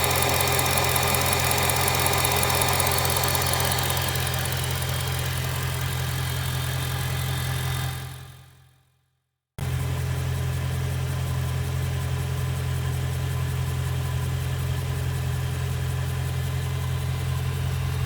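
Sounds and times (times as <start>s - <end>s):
car engine running with fast ticking: 0.0s - 8.5s, 9.6s - 18.0s.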